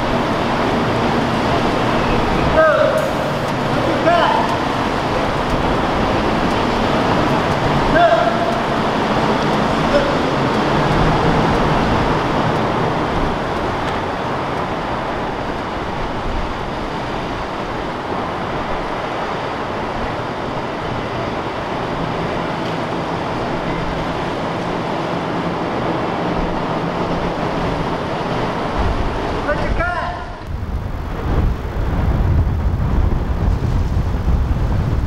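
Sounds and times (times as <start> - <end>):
rushing water: 0.0 - 35.0
wind: 0.0 - 35.0.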